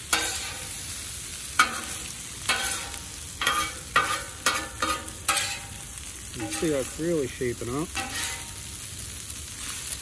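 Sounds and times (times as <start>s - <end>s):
metal spatula scraping griddle: 0.0s - 8.7s
food sizzling: 0.0s - 10.0s.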